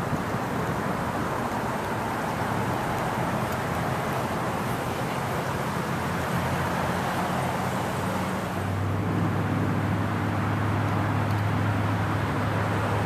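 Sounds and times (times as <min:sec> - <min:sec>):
distant engines rumbling: 0:00.0 - 0:13.0.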